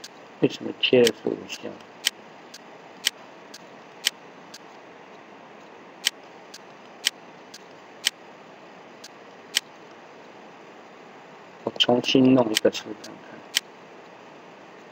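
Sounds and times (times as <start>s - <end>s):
steady background hiss: 0.0s - 14.9s.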